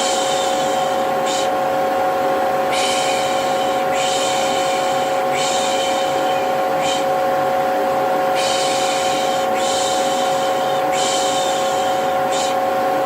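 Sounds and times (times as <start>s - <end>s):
vacuum cleaner humming: 0.0s - 13.0s.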